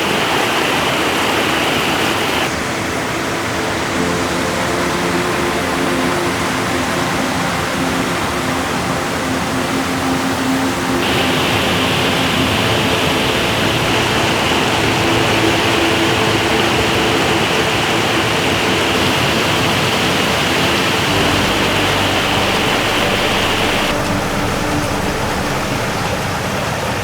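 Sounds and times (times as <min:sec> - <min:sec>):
waterfall rushing over rocks: 0:00.0 - 0:27.0.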